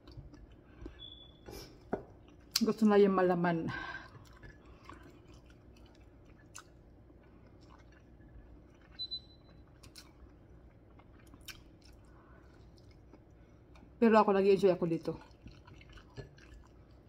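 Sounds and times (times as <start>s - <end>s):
person chewing food: 0.0s - 2.6s, 4.0s - 14.0s, 15.2s - 17.0s.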